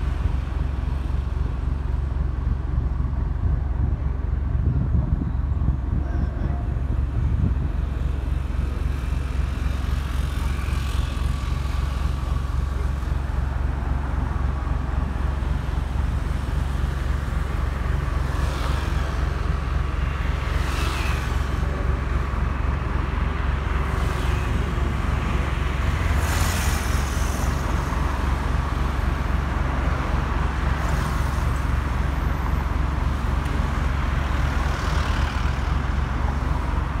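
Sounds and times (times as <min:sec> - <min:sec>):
jet airliner distant rumble: 0:00.0 - 0:37.0
street traffic: 0:00.0 - 0:37.0
vehicles passing: 0:00.0 - 0:37.0.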